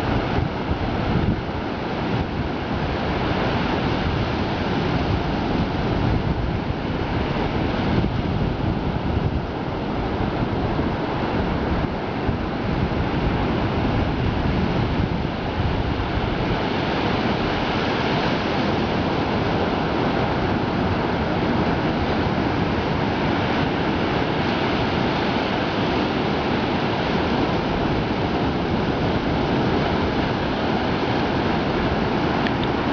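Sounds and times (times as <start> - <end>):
sea waves washing on shore: 0.0 - 32.9.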